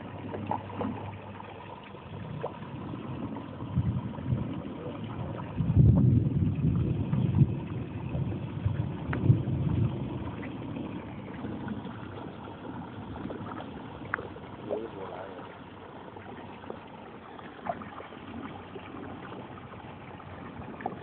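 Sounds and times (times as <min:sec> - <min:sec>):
wind rumbling on microphone: 0:02.0 - 0:15.4, 0:16.2 - 0:21.0.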